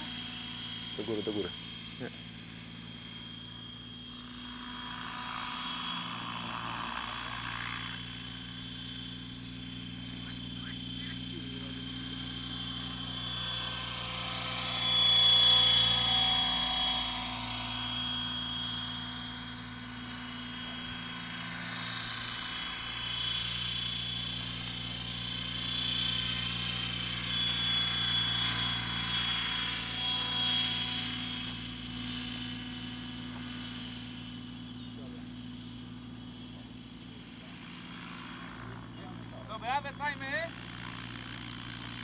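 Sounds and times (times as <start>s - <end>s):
high motor whine: 0.0s - 42.0s
model helicopter rotor whir: 0.0s - 42.0s.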